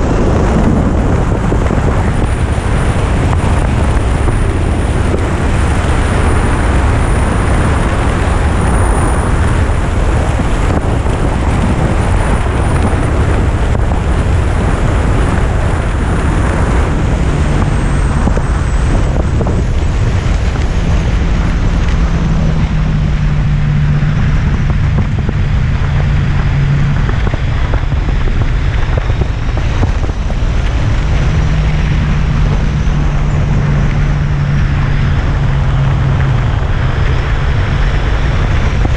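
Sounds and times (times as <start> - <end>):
motorcycle engine drone: 0.0 - 38.9
wind rush on microphone: 0.0 - 38.9.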